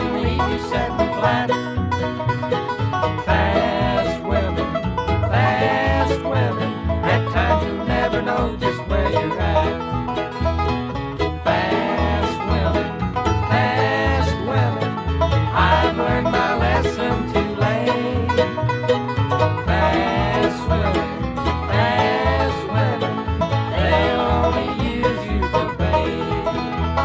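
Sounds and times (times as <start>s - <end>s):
bluegrass band playing: 0.0s - 27.0s
sliding lead line: 0.0s - 27.0s.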